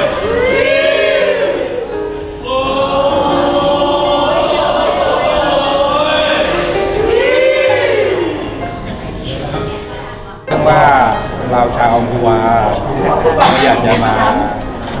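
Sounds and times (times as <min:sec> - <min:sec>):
choir-like vocal melody: 0:00.0 - 0:15.0.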